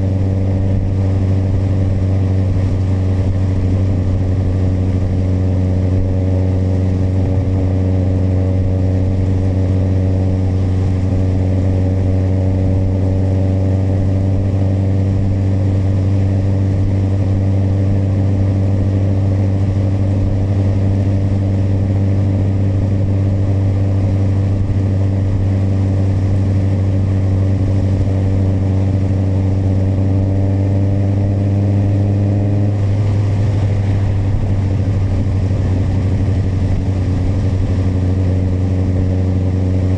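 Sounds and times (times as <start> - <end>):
motorcycle engine cruising: 0.0 - 39.9
wind and road hiss: 0.0 - 39.9.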